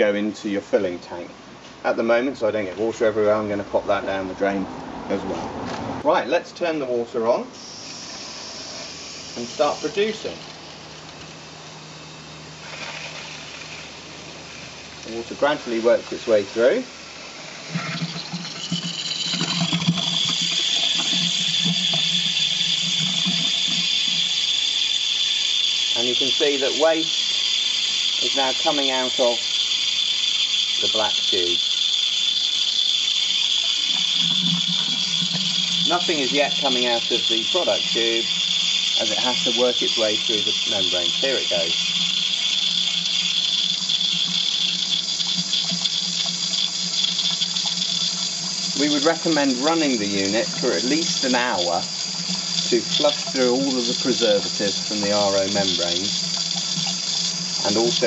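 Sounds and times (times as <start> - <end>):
water hissing through tubing: 7.5 - 58.0.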